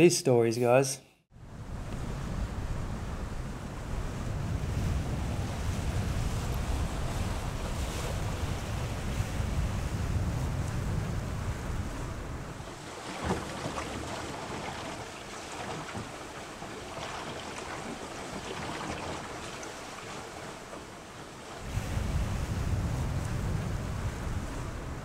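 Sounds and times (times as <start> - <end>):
wind buffeting microphone: 1.3 - 20.8, 21.6 - 25.0
sea water rushing along hulls: 1.3 - 25.0.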